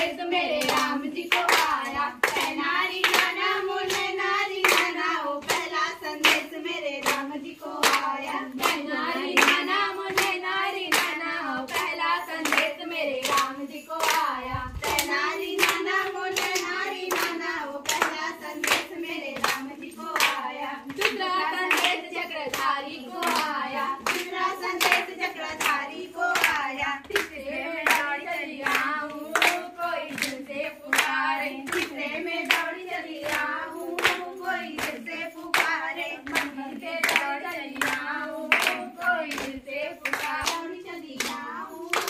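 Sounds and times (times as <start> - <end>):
hands clapping on a beat: 0.0 - 42.0
women singing together: 0.0 - 42.0.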